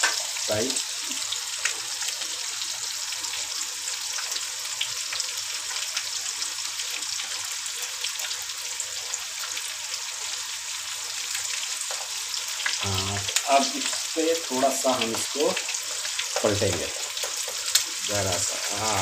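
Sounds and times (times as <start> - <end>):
fish frying in hot oil: 0.0 - 19.0.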